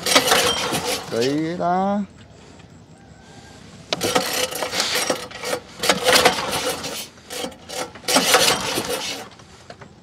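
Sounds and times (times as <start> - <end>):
boat engine pull-start strokes: 0.0 - 1.6, 3.6 - 10.0.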